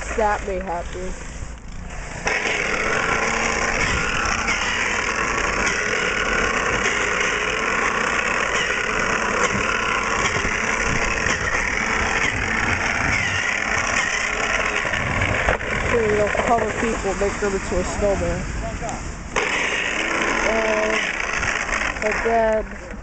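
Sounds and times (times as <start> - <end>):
electric snow thrower running: 0.0 - 18.5, 19.2 - 23.0.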